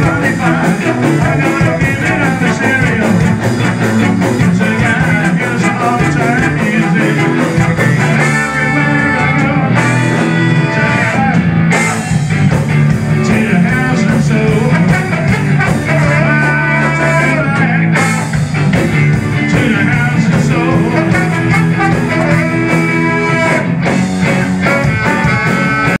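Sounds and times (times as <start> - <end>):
person singing: 0.0 - 3.5, 4.2 - 12.0, 12.9 - 18.2, 19.1 - 23.8, 24.7 - 26.0
live ska band playing: 0.0 - 26.0
trombone and saxophone lines: 0.0 - 26.0.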